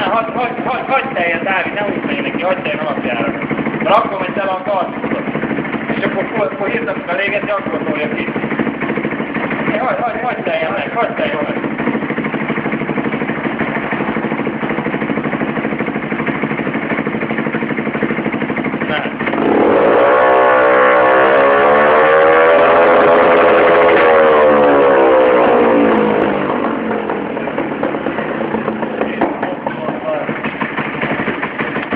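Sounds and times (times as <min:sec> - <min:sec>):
scooter engine idling and revving: 0:00.0 - 0:31.9.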